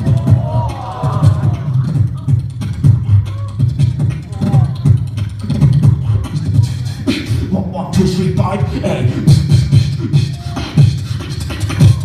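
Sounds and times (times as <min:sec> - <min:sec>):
beatboxing through microphone: 0:00.0 - 0:12.0.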